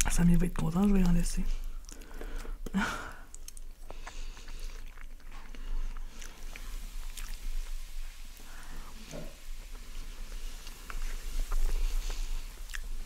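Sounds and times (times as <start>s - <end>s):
chewing and wet mouth sounds: 0.0s - 13.0s.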